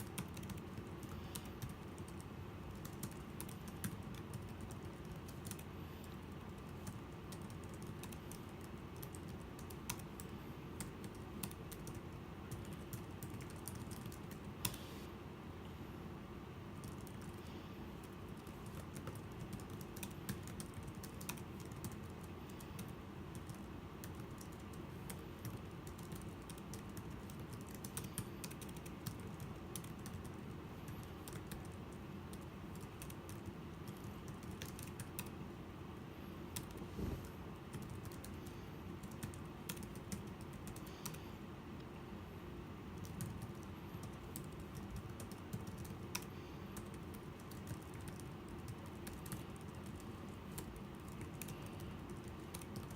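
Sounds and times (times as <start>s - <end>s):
keyboard keys clicking: 0.0s - 14.8s, 16.8s - 17.4s, 18.0s - 35.3s, 39.0s - 41.2s, 43.0s - 52.9s.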